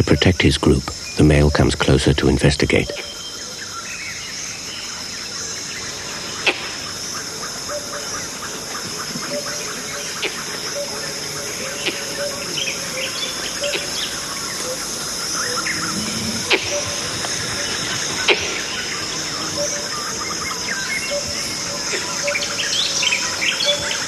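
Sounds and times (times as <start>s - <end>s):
high insect hiss: 0.0s - 24.0s
bird chirps: 2.6s - 8.5s, 9.2s - 24.0s.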